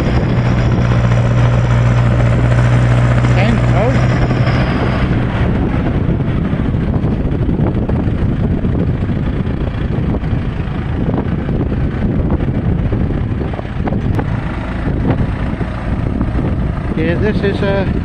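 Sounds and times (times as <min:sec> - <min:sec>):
tractor working: 0:00.0 - 0:18.0
wind buffeting microphone: 0:00.0 - 0:18.0.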